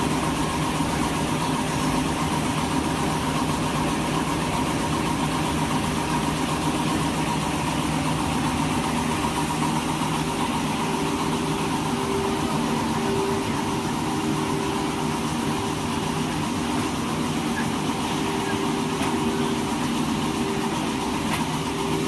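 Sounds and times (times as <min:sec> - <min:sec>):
machine hum with held tones: 0:00.0 - 0:22.0.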